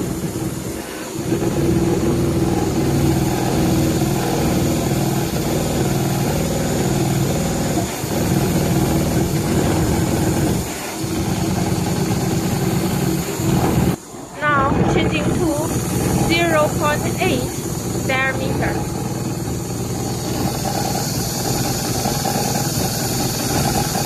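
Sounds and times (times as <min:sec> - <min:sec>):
perforation machine chattering: 0:00.0 - 0:24.0.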